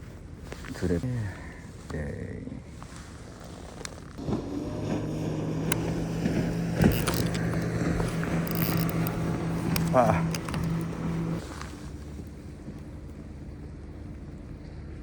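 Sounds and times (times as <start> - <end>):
boat motor humming: 2.5 - 15.0.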